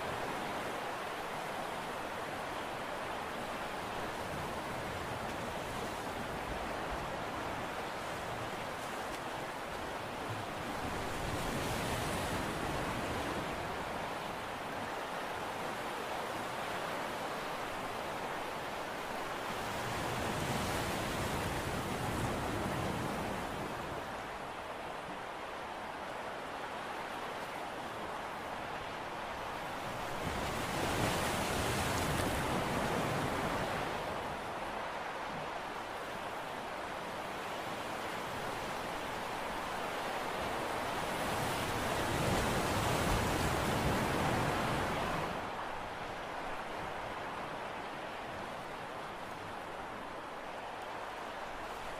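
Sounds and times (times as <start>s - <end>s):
sea waves: 0.0s - 51.9s
wind: 0.0s - 51.9s.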